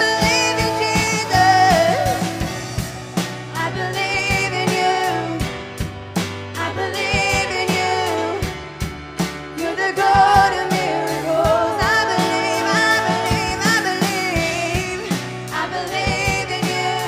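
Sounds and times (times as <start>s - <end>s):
woman singing lead: 0.0s - 5.8s, 6.5s - 8.8s, 9.4s - 17.0s
held bass chords: 0.0s - 17.0s
steady drum beat: 0.0s - 17.0s.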